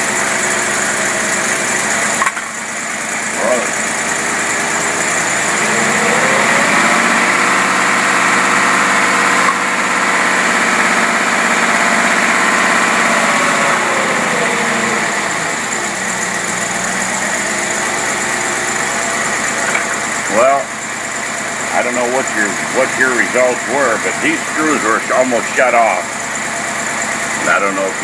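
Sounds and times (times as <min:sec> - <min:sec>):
gasoline engine revving and idling: 0:00.0 - 0:28.0.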